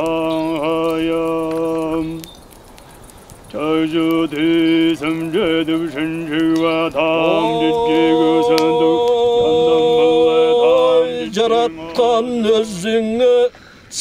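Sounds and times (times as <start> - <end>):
man chanting held notes: 0.0 - 2.3, 3.5 - 14.0.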